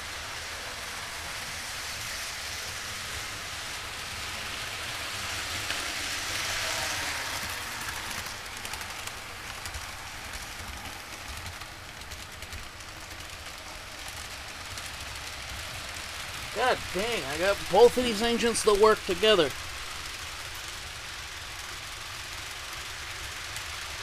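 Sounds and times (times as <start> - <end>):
model train wheels and motors whirring: 0.0 - 24.0.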